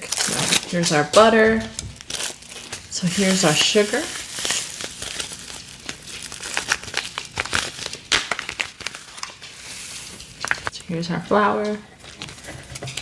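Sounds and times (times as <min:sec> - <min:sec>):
plastic packaging crinkling: 0:00.0 - 0:10.8, 0:11.9 - 0:13.0.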